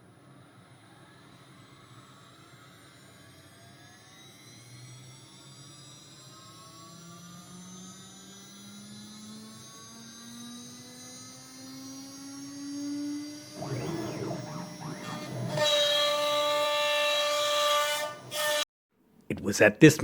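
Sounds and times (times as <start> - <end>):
router spindle whine: 0.3 - 18.6.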